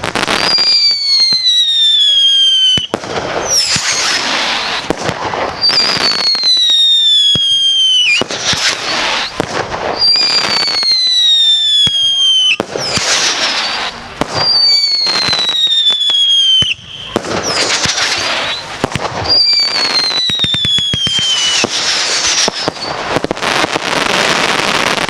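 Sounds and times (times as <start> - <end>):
firework bangs: 0.0 - 25.0
firework crackling: 0.0 - 25.0
firework whistles falling in pitch: 0.1 - 25.0.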